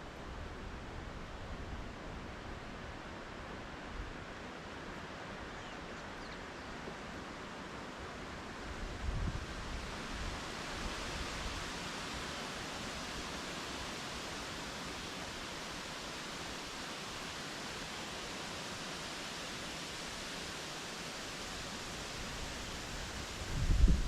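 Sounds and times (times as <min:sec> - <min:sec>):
storm wind rushing through trees: 0:00.0 - 0:24.0.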